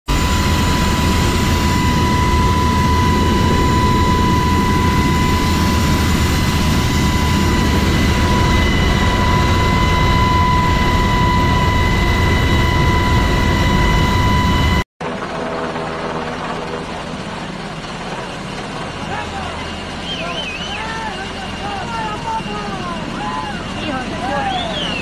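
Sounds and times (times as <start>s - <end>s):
helicopter rotor and turbine noise: 0.1s - 25.0s
high turbine whine: 0.1s - 25.0s.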